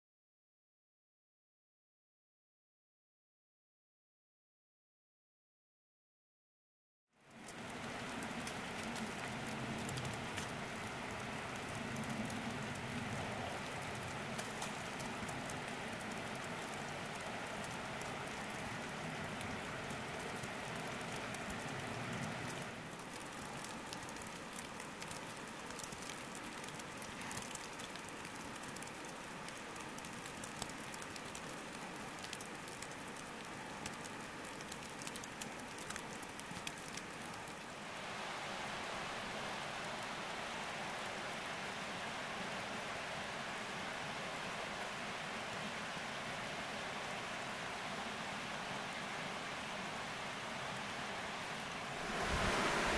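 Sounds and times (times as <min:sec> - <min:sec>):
rain and wet snow hissing on leaves: 0:07.2 - 0:52.9.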